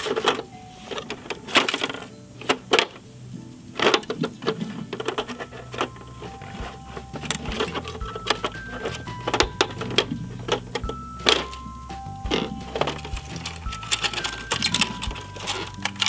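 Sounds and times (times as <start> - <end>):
plastic toy clicks and rattles: 0.0 - 3.0, 3.7 - 11.6, 12.3 - 16.0
background music of held notes: 0.0 - 16.0.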